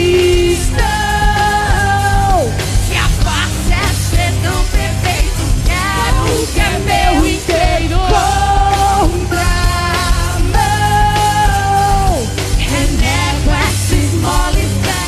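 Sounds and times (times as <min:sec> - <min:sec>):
live rock band playing: 0:00.0 - 0:15.0
woman singing: 0:00.0 - 0:15.0.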